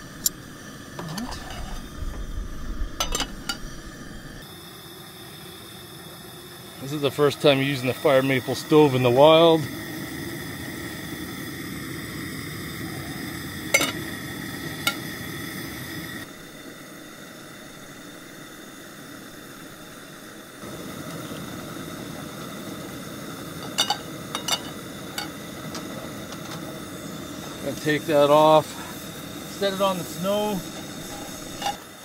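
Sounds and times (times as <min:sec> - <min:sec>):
camp stove hissing: 0:00.0 - 0:32.0.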